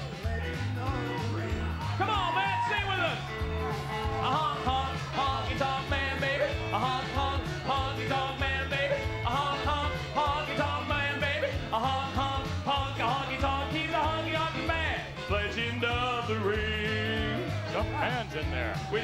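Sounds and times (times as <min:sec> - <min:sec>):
band backing: 0:00.0 - 0:19.0
walking bass line: 0:00.0 - 0:19.0
men singing rock and roll: 0:00.1 - 0:19.0.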